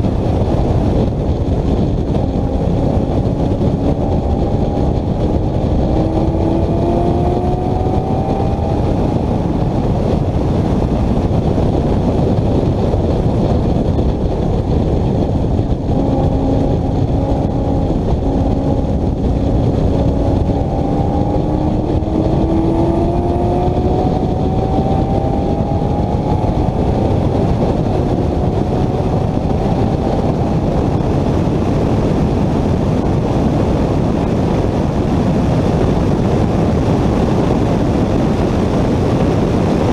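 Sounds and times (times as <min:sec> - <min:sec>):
vehicle engine accelerating: 0:00.0 - 0:39.9
wind and road noise: 0:00.0 - 0:39.9.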